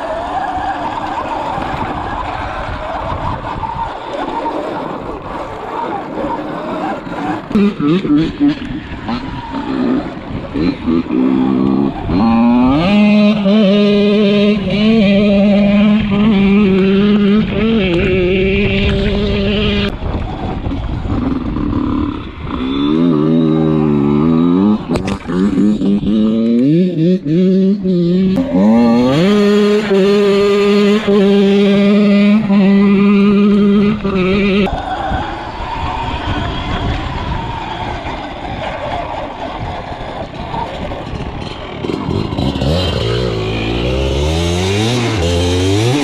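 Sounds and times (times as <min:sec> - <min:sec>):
engine climbing in pitch: 0:00.0 - 0:46.0
wind noise on microphone: 0:00.0 - 0:46.0
dirt bike engine revving: 0:03.0 - 0:46.0.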